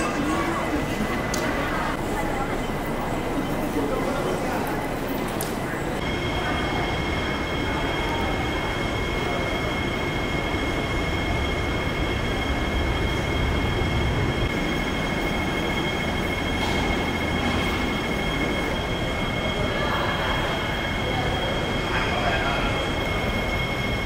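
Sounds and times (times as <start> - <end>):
electric train whine: 0.0 - 24.0
train low rumble: 0.0 - 24.0.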